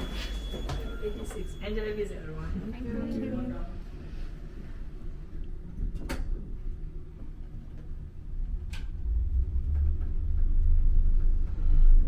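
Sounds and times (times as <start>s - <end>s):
lift low rumble: 0.0s - 12.0s.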